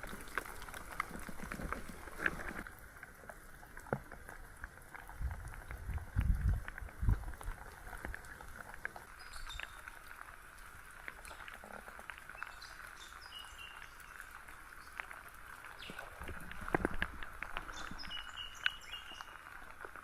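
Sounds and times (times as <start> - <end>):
rain hiss: 0.0 - 20.0
water drips ticking: 0.0 - 20.0.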